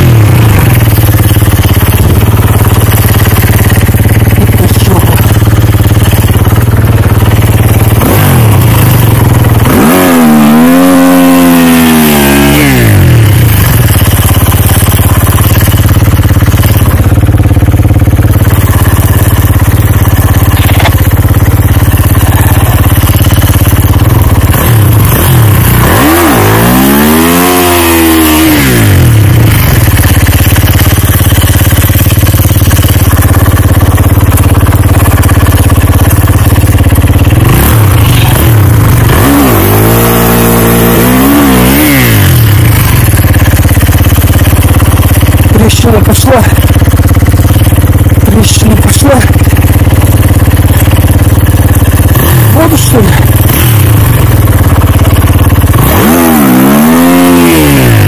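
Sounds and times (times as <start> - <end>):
snowbike engine idling and revving: 0.0 - 58.0.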